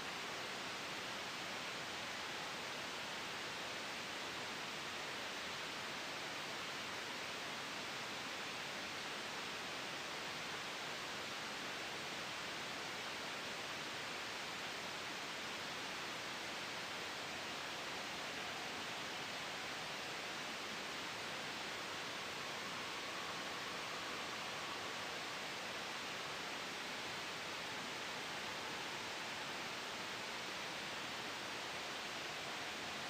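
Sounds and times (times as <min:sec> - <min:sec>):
soft white noise hiss: 0:00.0 - 0:33.0.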